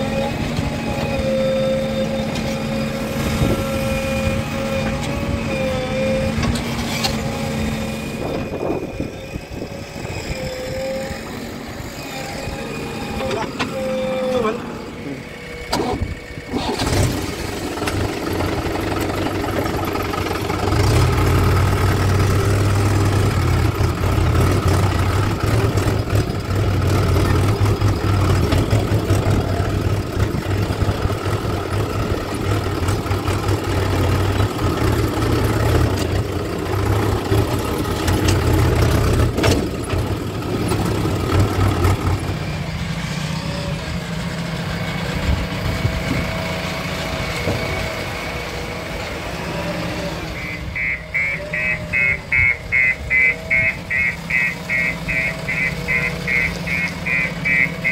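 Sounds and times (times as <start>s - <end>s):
engine idling with faint whine: 0.0s - 57.9s
tractor diesel engine under load: 0.0s - 57.9s.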